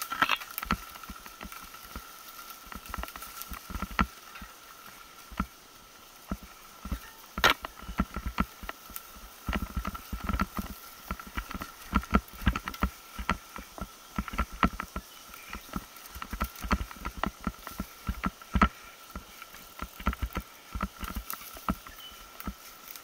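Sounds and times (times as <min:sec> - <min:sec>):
mountain bike rattling and knocking: 0:00.0 - 0:23.0.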